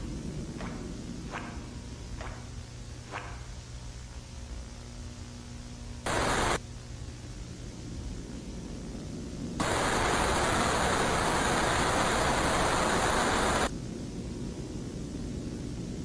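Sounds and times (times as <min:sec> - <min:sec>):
loud static hiss: 0:00.0 - 0:16.0
steady low rumble: 0:00.0 - 0:16.0.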